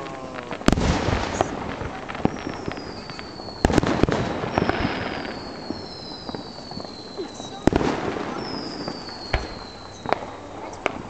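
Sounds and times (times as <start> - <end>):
fireworks bangs with crackle: 0.0 - 11.0.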